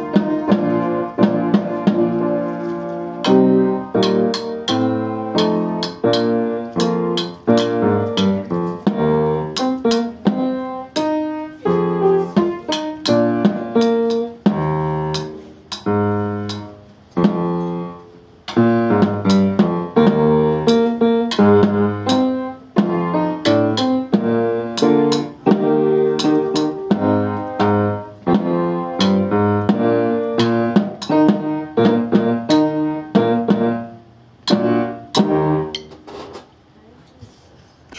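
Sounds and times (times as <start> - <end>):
keyboard tune with chords: 0.0 - 36.0.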